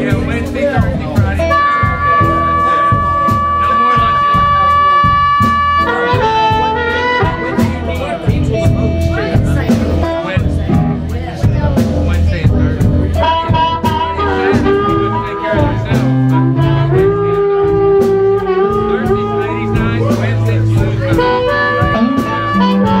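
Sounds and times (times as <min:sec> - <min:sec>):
blues band backing: 0:00.0 - 0:23.0
amplified blues harmonica: 0:01.3 - 0:10.8, 0:13.2 - 0:23.0.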